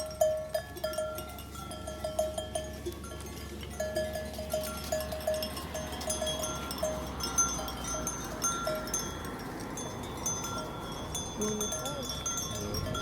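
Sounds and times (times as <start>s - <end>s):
livestock bells clinking: 0.0s - 13.0s.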